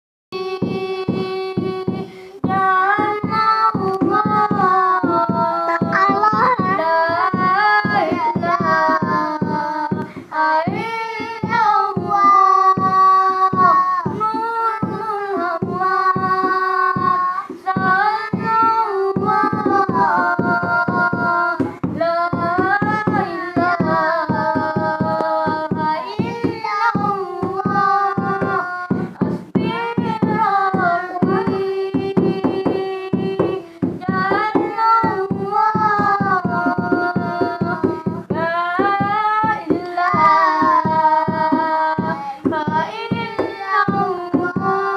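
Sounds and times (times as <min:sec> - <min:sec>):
child singing: 0:00.4 - 0:44.9
fast percussion beat: 0:00.4 - 0:44.9.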